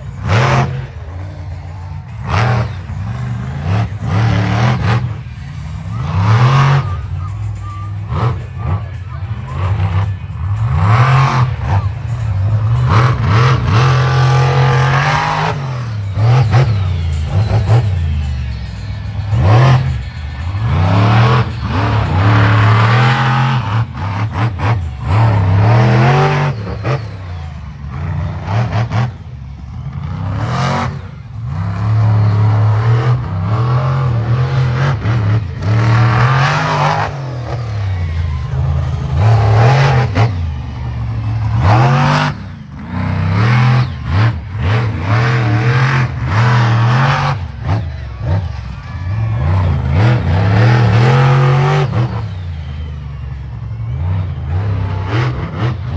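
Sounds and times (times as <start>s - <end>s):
monster truck engine revving: 0.0s - 55.9s.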